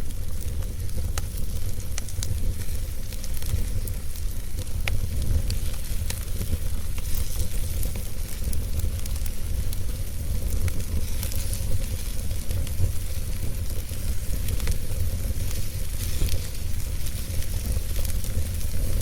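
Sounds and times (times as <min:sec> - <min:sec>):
steady hiss: 0:00.0 - 0:19.0
wood fire crackling: 0:00.0 - 0:19.0.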